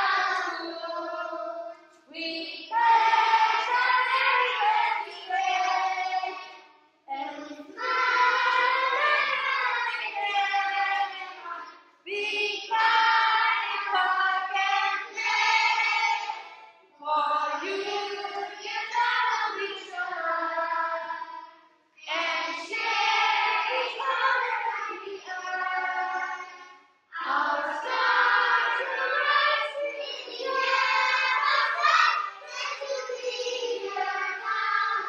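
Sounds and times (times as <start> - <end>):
children singing together: 0.0 - 35.0.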